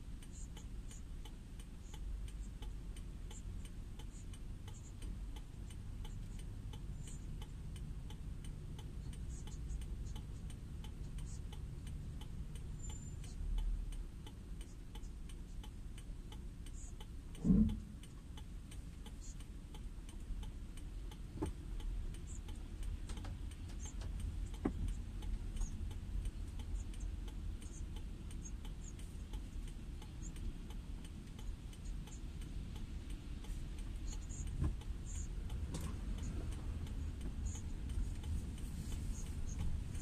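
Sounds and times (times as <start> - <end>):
car low rumble: 0.0 - 40.0
raindrops ticking on car roof: 0.0 - 40.0.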